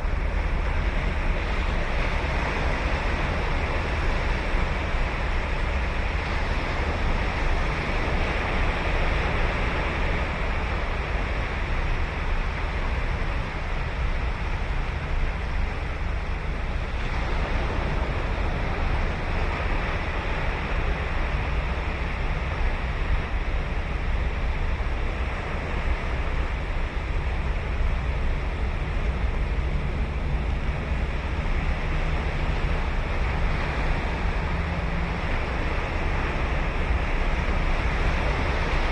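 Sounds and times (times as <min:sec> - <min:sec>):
surf washing onto beach: 0:00.0 - 0:38.9.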